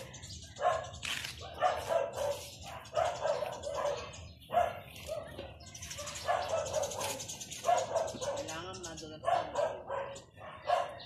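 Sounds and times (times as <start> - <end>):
dog barking: 0.6 - 11.0.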